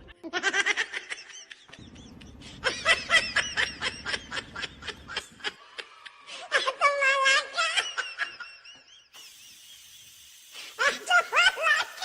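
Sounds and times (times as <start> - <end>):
high-pitched human laughter: 0.2 - 9.1, 10.8 - 12.0.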